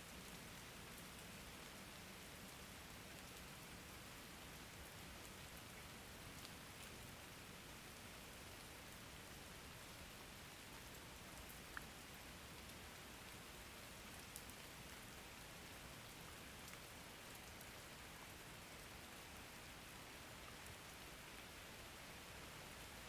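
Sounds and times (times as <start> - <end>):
faint rain hiss: 0.0 - 23.0.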